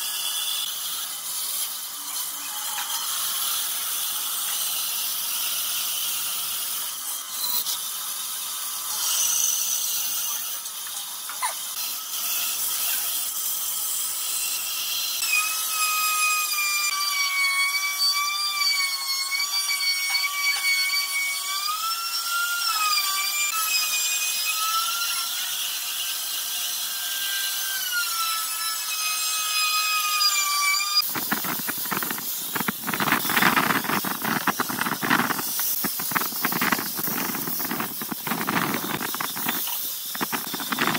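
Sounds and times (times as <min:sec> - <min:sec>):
angle grinder sanding wood: 0:00.0 - 0:18.2, 0:18.8 - 0:40.9
band saw cutting wood: 0:00.0 - 0:40.9.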